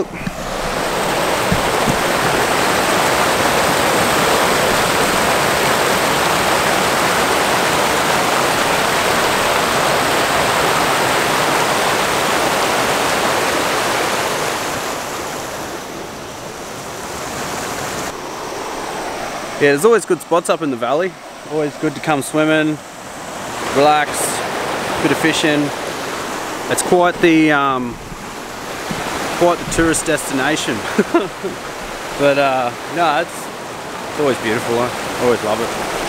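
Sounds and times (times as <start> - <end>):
water rushing over rocks: 0.0 - 36.0.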